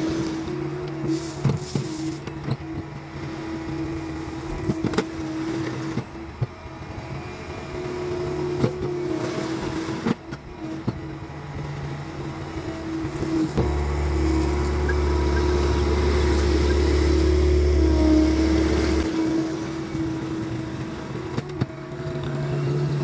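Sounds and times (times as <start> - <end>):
track loader machine hum: 0.0 - 23.0.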